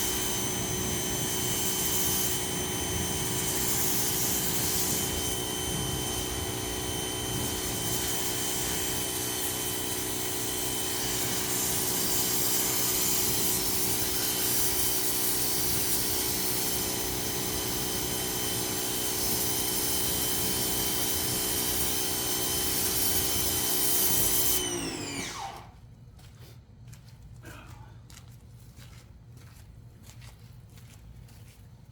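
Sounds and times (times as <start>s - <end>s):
motor winding down: 0.0s - 25.8s
pressure washer running: 0.0s - 25.8s.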